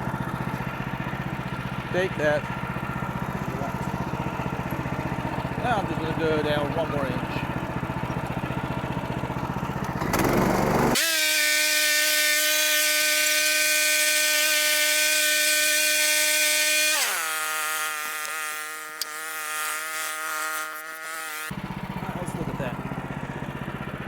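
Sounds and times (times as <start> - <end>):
gas engine whining: 0.0 - 24.0.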